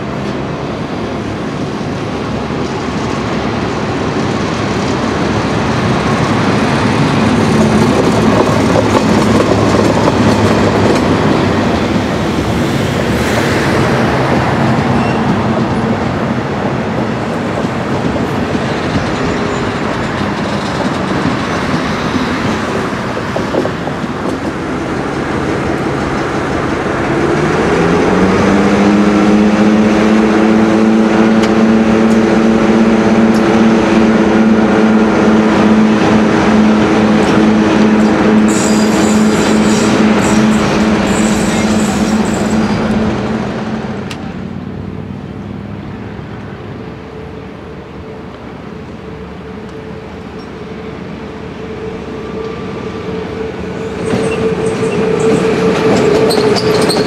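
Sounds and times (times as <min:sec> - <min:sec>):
diesel locomotive engine: 0:00.0 - 0:57.0
coach wheels clattering on rails: 0:01.6 - 0:44.4, 0:53.4 - 0:57.0.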